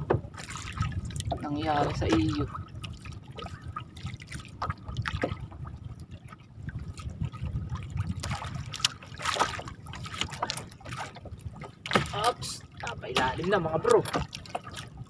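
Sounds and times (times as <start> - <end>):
steady low rumble: 0.0 - 15.0
water trickling and splashing: 0.0 - 15.0.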